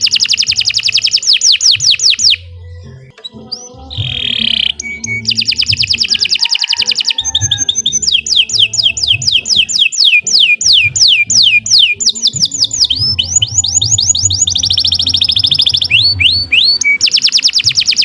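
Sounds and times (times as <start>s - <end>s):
canary singing trills and whistles: 0.0s - 18.0s.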